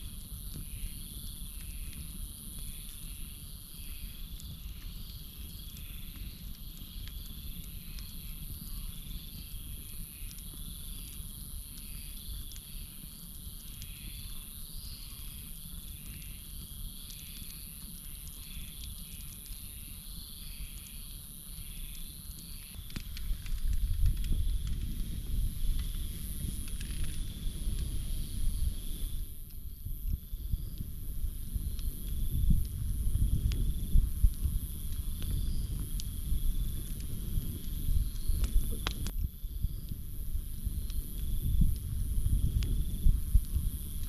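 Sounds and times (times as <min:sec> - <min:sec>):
campfire crackling: 0:00.0 - 0:44.0
cricket trill: 0:00.0 - 0:44.0.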